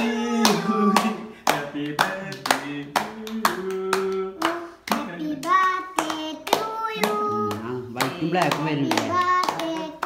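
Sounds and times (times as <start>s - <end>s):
people clapping in rhythm: 0.0s - 10.0s
voices singing along: 0.0s - 10.0s.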